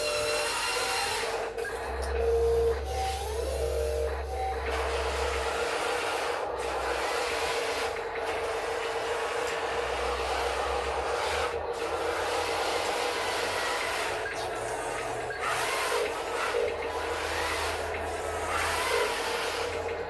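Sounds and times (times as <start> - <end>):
machine hiss and hum: 0.0 - 20.0.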